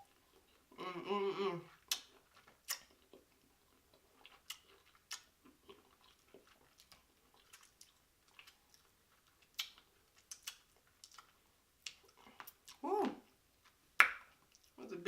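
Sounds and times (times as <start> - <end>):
person chewing juicy fruit: 0.0 - 14.8.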